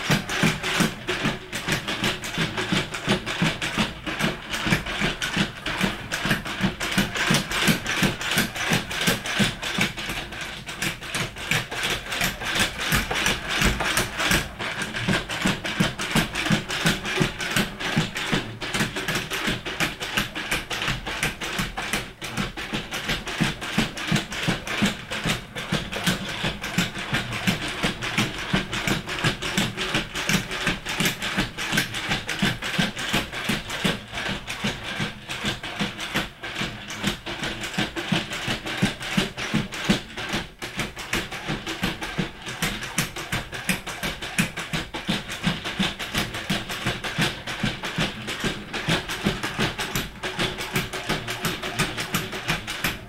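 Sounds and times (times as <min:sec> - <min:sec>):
robot feet tapping wooden floor: 0:00.0 - 0:53.0.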